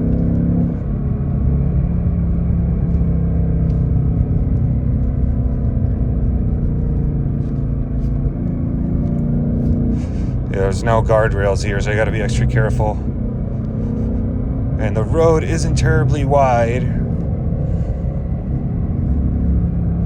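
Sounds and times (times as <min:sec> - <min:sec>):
car engine low rumble: 0:00.0 - 0:20.0.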